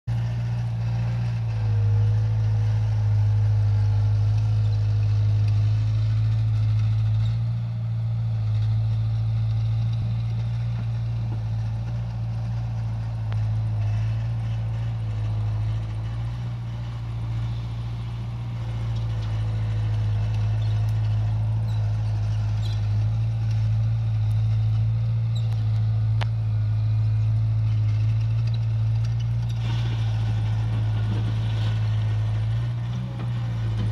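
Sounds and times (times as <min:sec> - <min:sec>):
low engine drone: 0:00.0 - 0:33.9.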